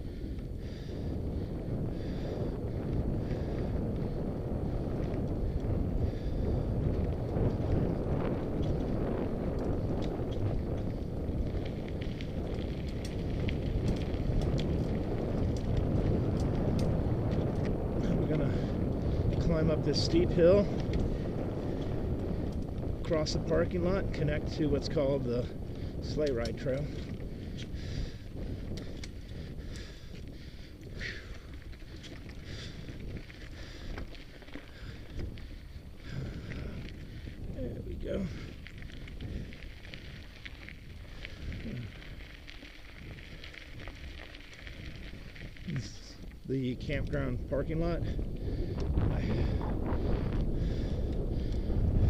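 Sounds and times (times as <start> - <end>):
wind and riding rumble: 0.0 - 52.0
small clicks and crackles: 4.8 - 52.0.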